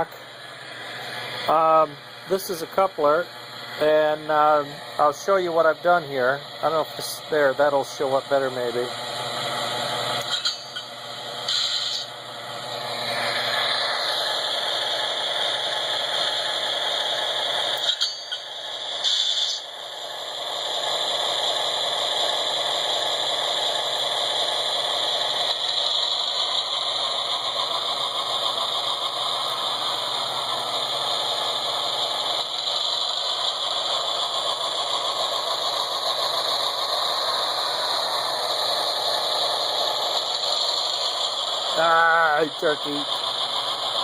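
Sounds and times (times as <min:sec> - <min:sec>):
model train motor rattle and drone: 0:00.0 - 0:44.0.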